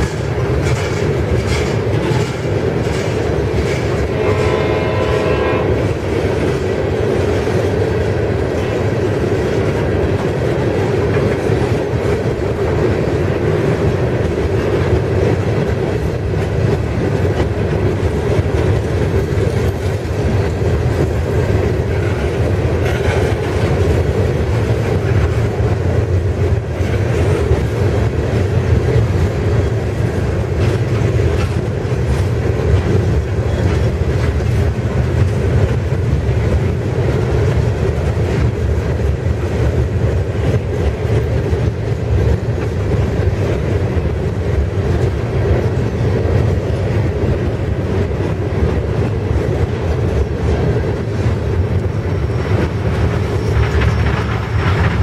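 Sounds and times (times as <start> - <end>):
clicking over rail joints: 0.0 - 55.0
steel wheels rumbling on rail: 0.0 - 55.0.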